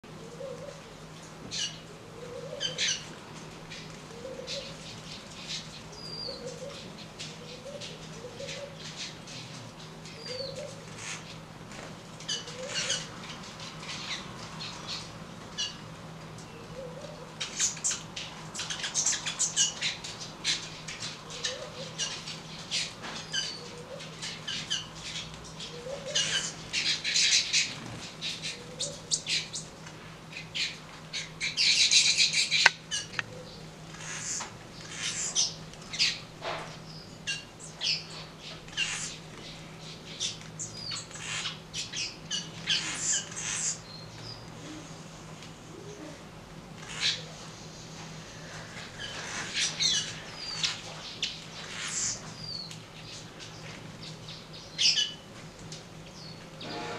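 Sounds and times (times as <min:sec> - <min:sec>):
small birds chattering and chirping: 0:00.1 - 0:56.9.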